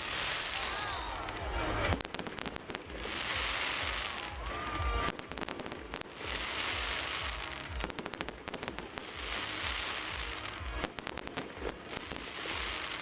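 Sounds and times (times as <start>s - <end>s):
fireworks crackling: 0.0s - 13.0s
hissing fizz: 0.0s - 13.0s
music with bass beat: 1.3s - 13.0s.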